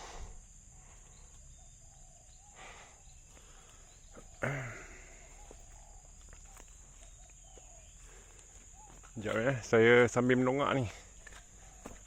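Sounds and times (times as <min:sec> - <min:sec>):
insect chirps: 0:00.0 - 0:12.0
insects droning: 0:00.0 - 0:12.0.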